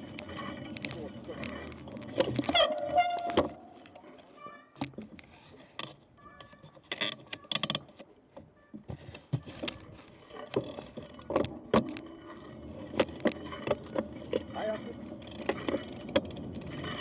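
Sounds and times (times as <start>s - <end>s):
bike knocks and rattles: 0.0s - 17.0s.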